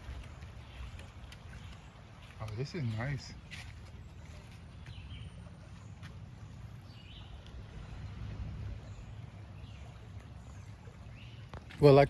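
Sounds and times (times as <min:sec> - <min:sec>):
low outdoor rumble: 0:00.0 - 0:11.8.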